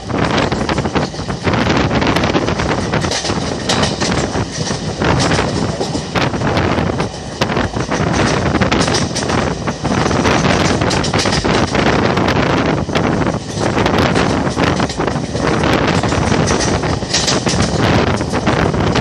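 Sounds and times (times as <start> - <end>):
wheels rumbling and clattering on rail: 0.0 - 19.0
wind buffeting microphone: 0.0 - 19.0.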